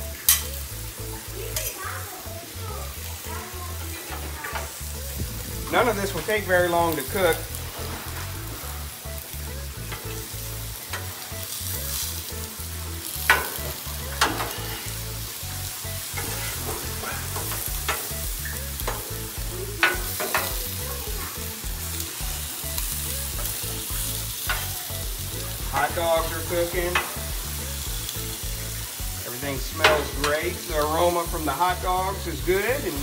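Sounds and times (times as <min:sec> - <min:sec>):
food sizzling on a griddle: 0:00.0 - 0:33.0
metal spatula scraping steel: 0:03.0 - 0:31.1.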